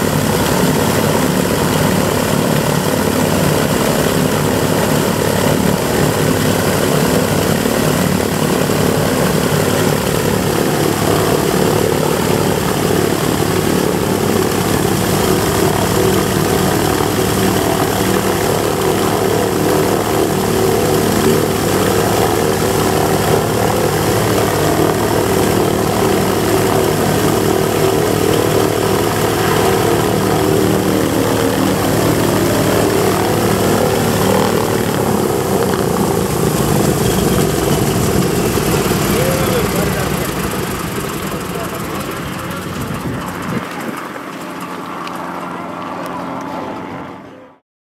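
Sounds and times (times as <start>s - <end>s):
propeller winding down: 0.0s - 47.5s
radial aircraft engines idling: 0.0s - 47.5s.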